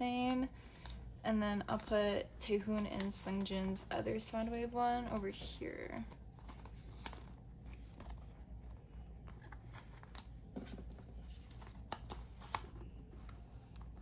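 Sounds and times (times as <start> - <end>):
plastic pages rustling: 0.0 - 14.0.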